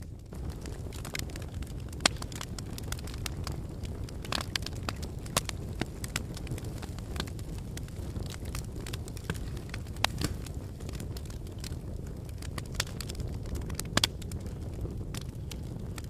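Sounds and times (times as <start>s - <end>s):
fire pops and snaps: 0.0s - 16.0s
wood fire crackling: 0.0s - 16.0s.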